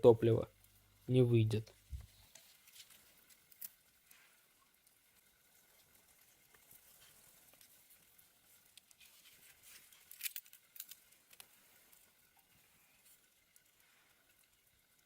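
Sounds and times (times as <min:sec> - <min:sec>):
faint campfire crackling: 0:00.0 - 0:15.0.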